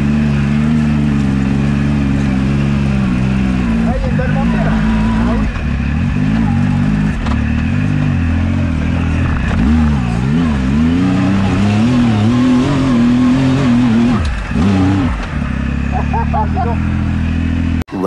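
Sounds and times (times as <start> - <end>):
engine revving: 0.0 - 17.8.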